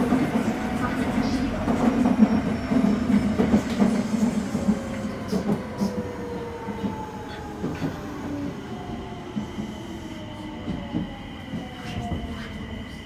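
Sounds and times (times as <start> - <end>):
train running rumble: 0.0 - 13.0.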